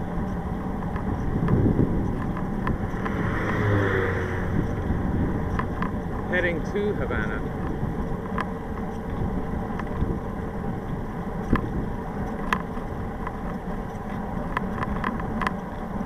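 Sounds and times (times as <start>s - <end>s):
bicycle tyres on asphalt: 0.0s - 16.0s
wind rush on microphone: 0.0s - 16.0s.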